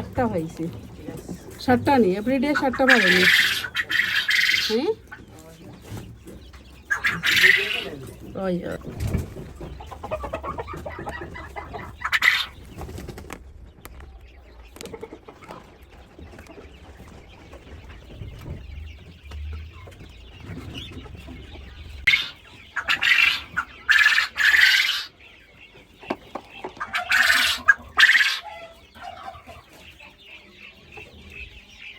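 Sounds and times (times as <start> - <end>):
quail calling: 0.0 - 12.9, 17.0 - 31.9.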